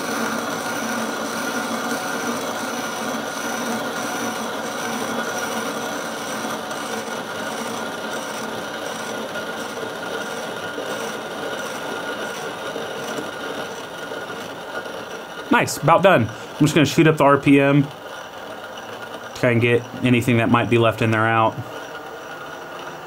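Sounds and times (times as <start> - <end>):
coffee grinder grinding: 0.0 - 23.0.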